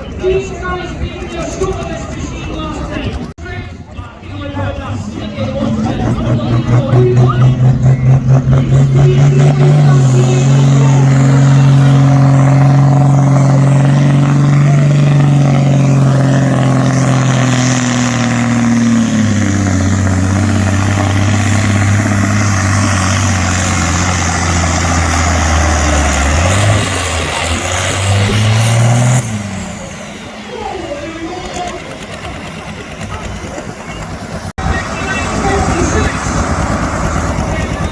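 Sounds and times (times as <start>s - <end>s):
tractor engine at full throttle: 0.0s - 37.9s.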